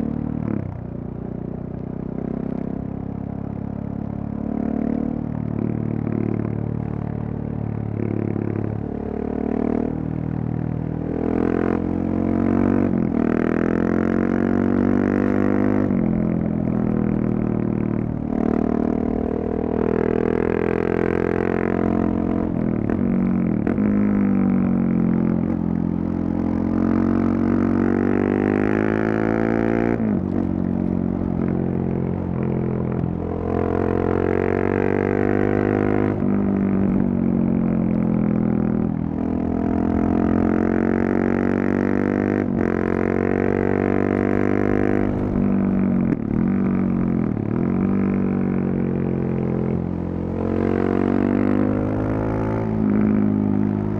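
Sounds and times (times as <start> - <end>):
motorcycle engine revving: 7.8 - 53.9.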